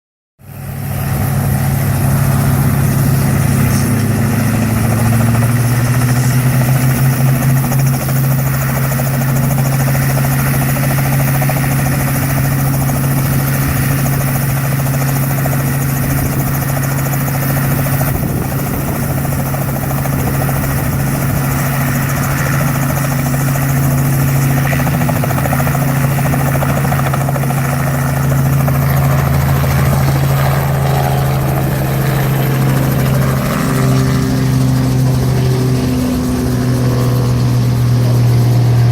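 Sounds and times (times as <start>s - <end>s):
helicopter drone: 0.4s - 38.9s.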